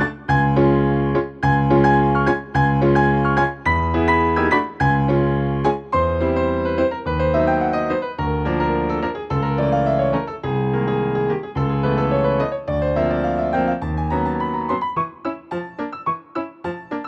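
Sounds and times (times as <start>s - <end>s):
keyboard chords: 0.0s - 17.0s.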